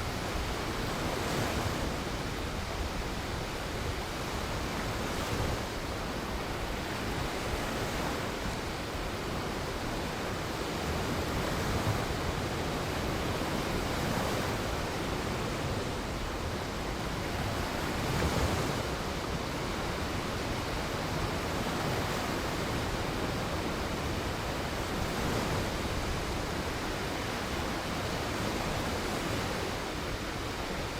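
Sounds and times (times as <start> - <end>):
waves breaking on shore: 0.0 - 30.9.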